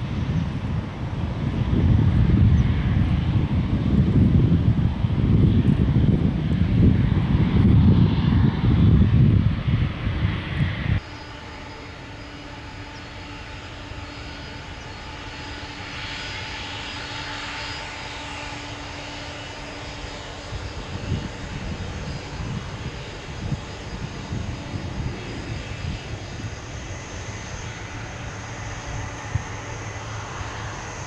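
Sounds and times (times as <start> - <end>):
jet engines passing overhead: 0.0 - 31.0.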